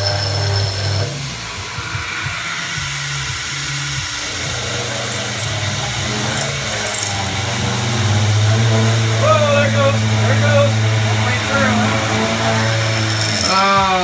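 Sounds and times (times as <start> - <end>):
machine tool machining metal: 0.0 - 14.0.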